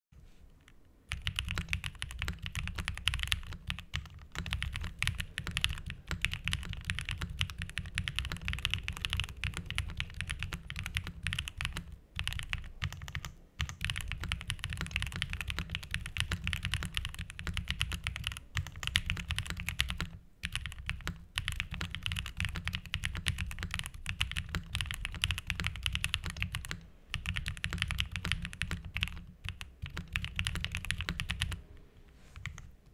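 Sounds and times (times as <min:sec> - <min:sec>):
fast mechanical keyboard typing: 0:01.1 - 0:31.6.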